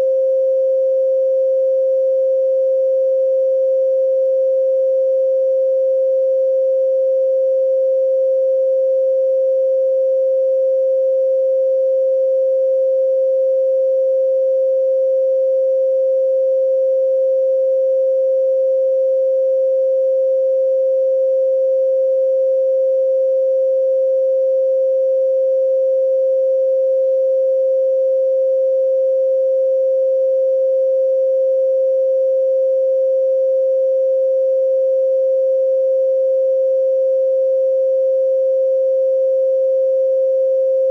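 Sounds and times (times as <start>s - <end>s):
sine tone: 0.0s - 40.9s.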